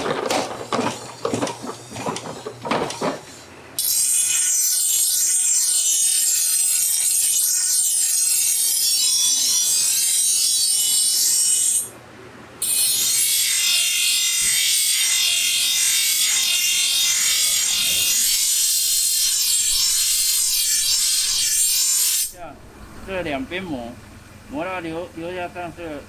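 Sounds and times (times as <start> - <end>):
bench grinder grinding metal: 0.0 - 11.9, 12.6 - 22.4.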